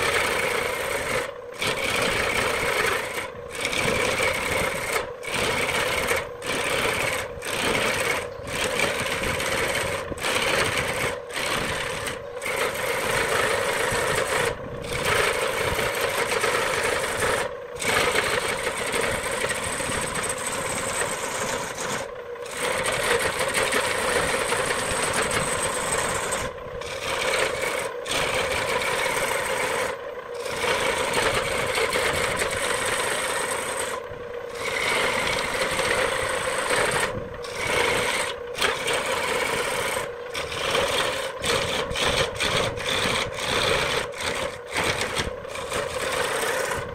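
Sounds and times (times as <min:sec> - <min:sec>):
turning tool scraping wood on lathe: 0:00.0 - 0:46.9.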